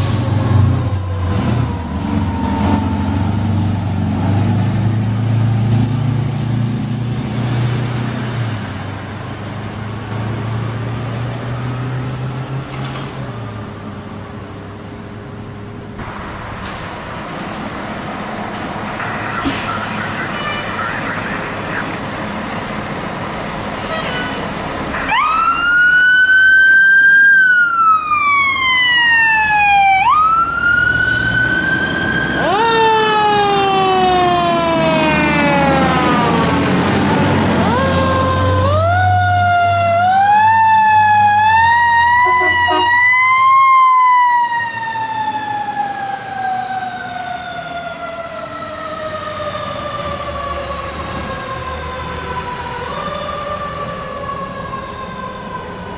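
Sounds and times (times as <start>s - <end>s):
fire engine siren wailing: 0.0s - 6.5s, 8.8s - 14.4s, 16.0s - 23.0s, 23.6s - 55.9s
fire engine engine: 0.0s - 55.9s.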